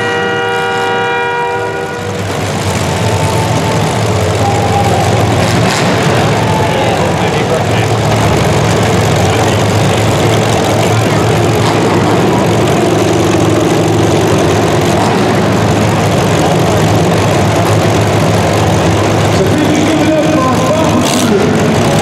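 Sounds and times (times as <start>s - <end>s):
car engines droning: 0.0s - 22.0s.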